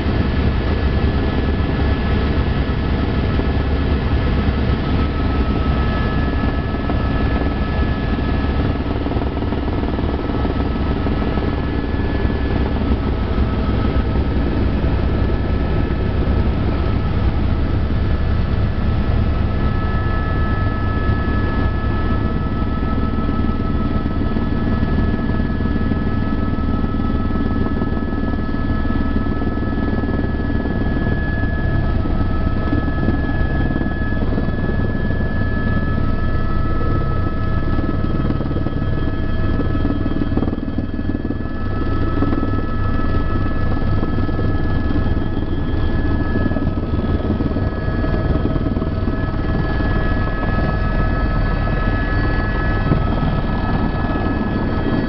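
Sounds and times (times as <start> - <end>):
helicopter rotor throb: 0.0 - 55.0
helicopter turbine whine: 0.0 - 55.0.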